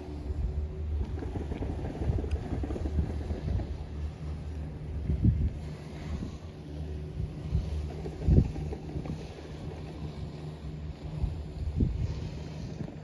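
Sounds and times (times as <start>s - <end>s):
low uneven rumble: 0.0s - 13.0s
wind buffeting microphone: 0.0s - 13.0s.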